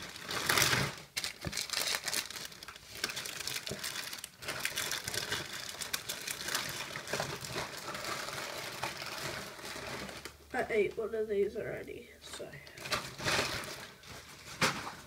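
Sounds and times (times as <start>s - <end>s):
plastic wrappers crinkling: 0.0s - 10.6s, 12.4s - 15.0s.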